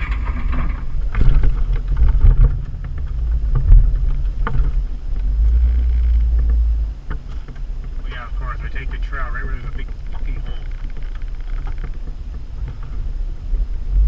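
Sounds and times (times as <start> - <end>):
knocks and rattles over bumps: 0.0 - 14.0
off-road vehicle engine rumble: 0.0 - 14.0.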